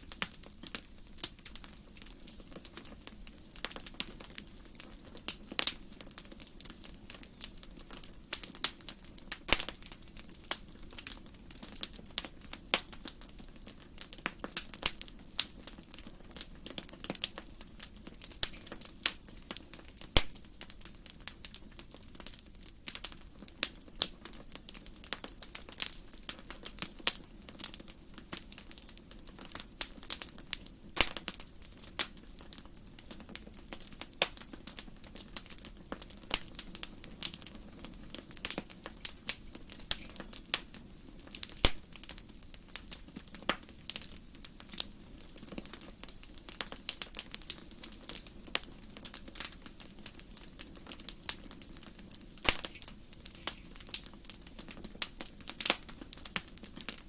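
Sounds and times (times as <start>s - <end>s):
low steady fire rumble: 0.0s - 57.0s
wood fire crackling and popping: 0.0s - 57.0s.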